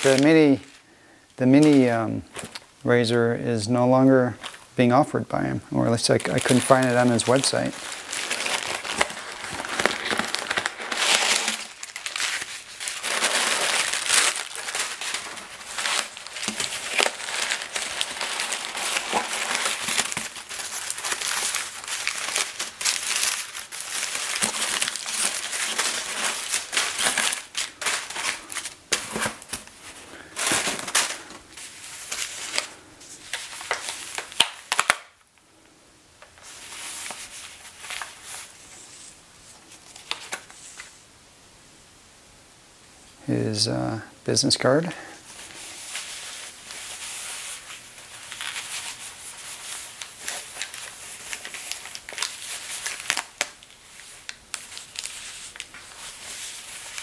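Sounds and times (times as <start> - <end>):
tissue paper rustling: 0.0 - 0.9, 5.9 - 35.2, 36.3 - 41.0, 45.2 - 57.0
packing paper rustling: 0.0 - 2.7, 4.3 - 4.7, 5.8 - 35.6, 36.2 - 41.0, 44.7 - 57.0.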